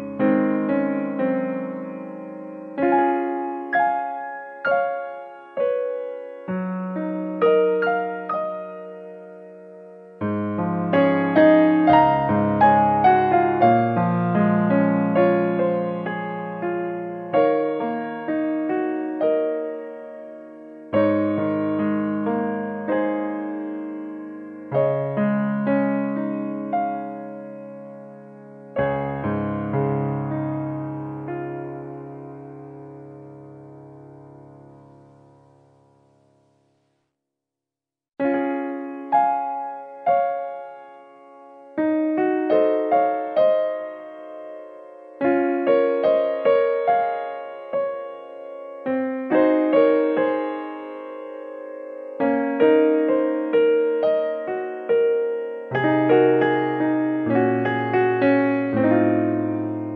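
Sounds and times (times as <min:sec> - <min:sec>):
slow piano music: 0:00.0 - 0:37.0, 0:38.2 - 0:59.9.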